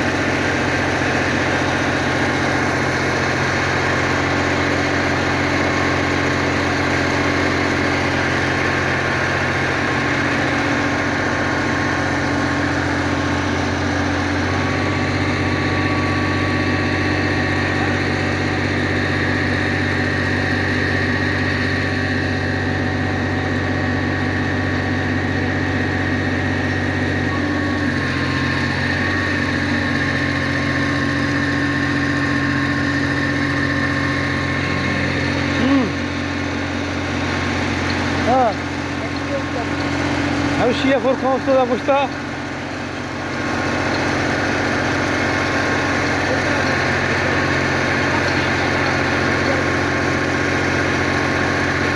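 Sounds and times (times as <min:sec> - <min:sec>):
engine humming: 0:00.0 - 0:51.9.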